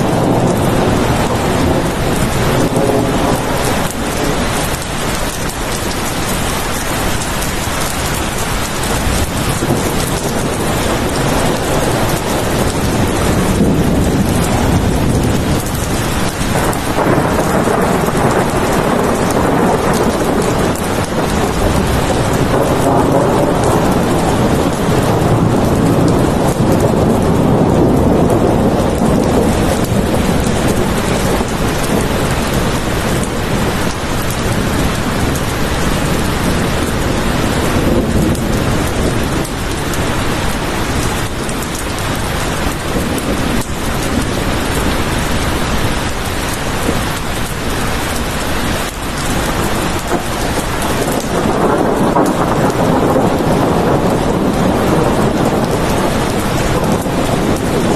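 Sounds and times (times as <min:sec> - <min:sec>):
heavy rain: 0:00.0 - 0:57.9
rolling thunder rumble: 0:00.0 - 0:57.9.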